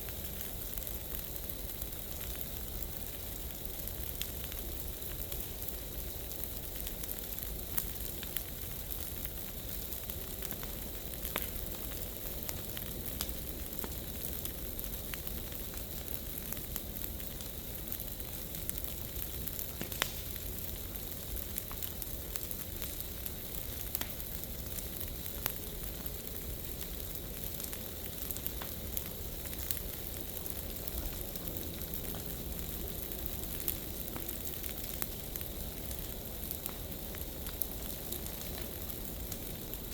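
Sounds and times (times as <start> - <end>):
burning leaves crackling: 0.0 - 39.9
sharp pops of fire: 0.0 - 39.9.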